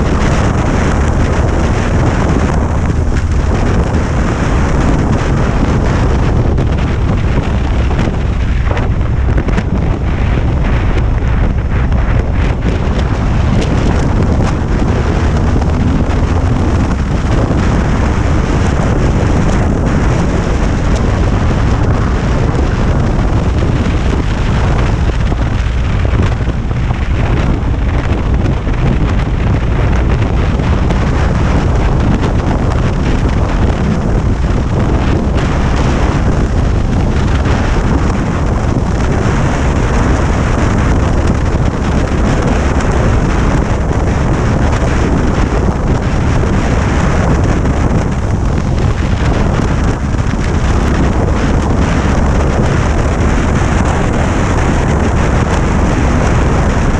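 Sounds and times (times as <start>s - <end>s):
motorcycle rumble: 0.0s - 56.9s
tyres on road: 0.0s - 56.9s
wind buffeting microphone: 0.0s - 56.9s.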